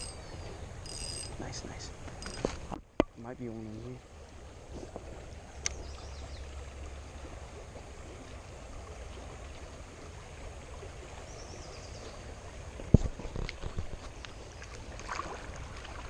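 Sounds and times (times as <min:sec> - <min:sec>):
river water running over stones: 0:00.0 - 0:16.0.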